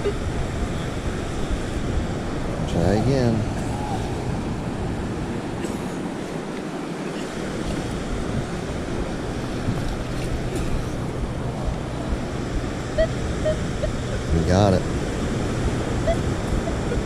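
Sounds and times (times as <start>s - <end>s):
low steady hum: 0.0s - 17.0s
ocean surf washing on beach: 0.0s - 17.0s
wind buffeting microphone: 0.0s - 17.0s.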